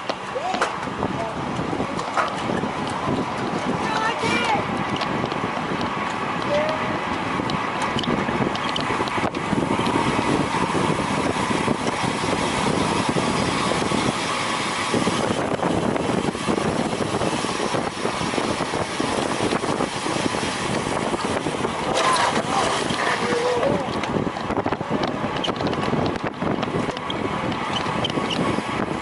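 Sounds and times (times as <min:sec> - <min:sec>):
bicycle road noise: 0:00.0 - 0:29.0
wind buffeting microphone: 0:00.0 - 0:29.0.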